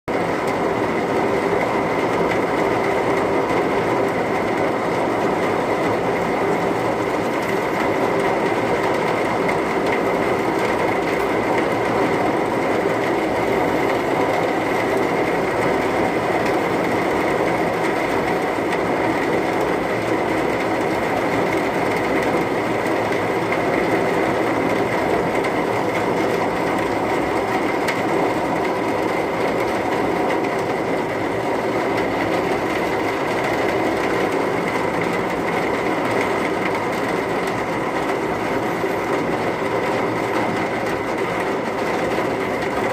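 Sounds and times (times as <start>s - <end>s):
heavy rain on a car: 0.1s - 42.9s.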